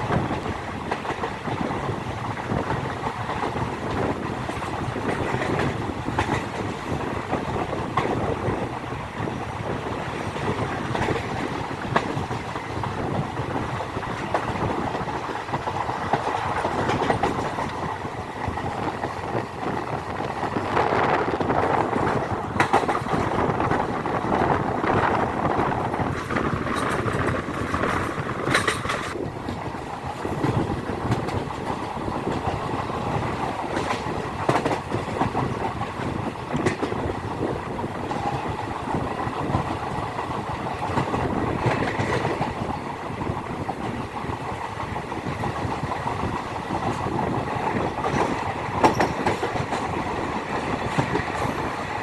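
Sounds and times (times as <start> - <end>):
train wheels clattering on rail joints: 0.0 - 52.0.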